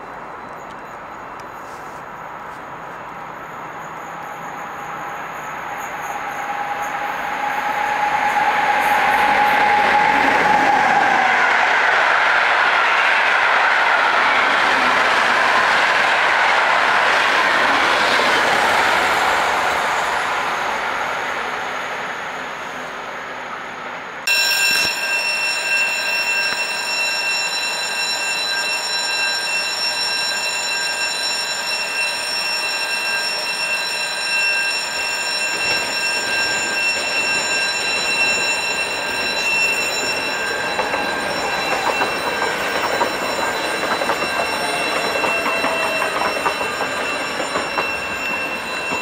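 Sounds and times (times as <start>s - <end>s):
electric train high whine: 0.0s - 49.0s
train coaches rushing past: 0.0s - 49.0s.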